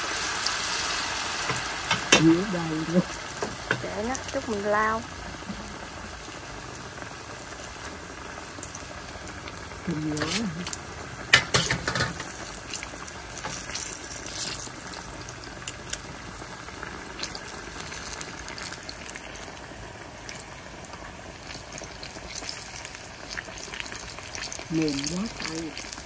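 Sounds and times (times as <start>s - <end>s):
food deep-frying in oil: 0.0s - 26.0s.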